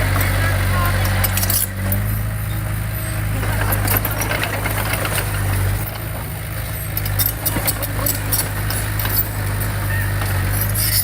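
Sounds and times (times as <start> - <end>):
heavy diesel engine running: 0.0 - 11.0
metallic rattles and clanks: 0.0 - 11.0.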